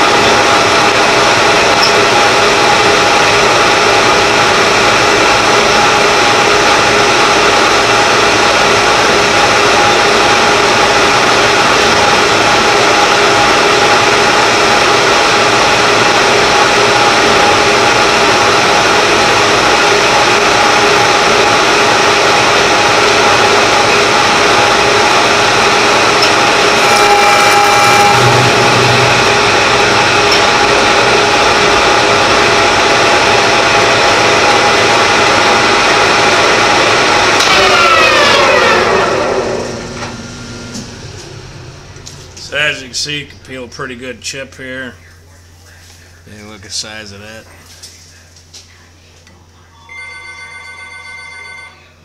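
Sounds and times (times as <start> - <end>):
gear whine: 0.0 - 44.3
lathe running: 0.0 - 45.6.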